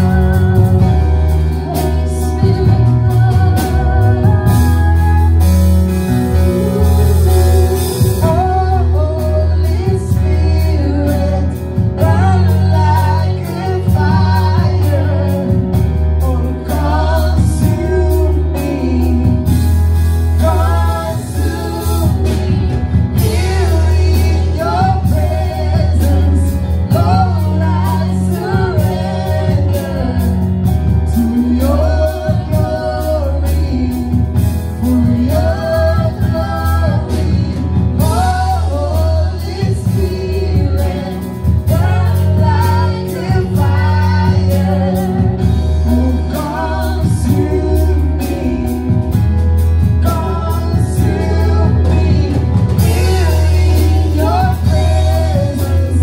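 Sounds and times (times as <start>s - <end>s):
bass holding low notes: 0.0s - 56.0s
keyboard: 0.0s - 56.0s
singers: 0.0s - 56.0s.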